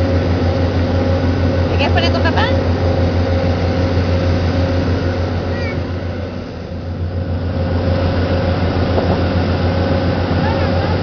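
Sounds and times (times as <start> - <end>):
boat engine pulsing drone: 0.0 - 11.0
wind and water rushing: 0.0 - 11.0.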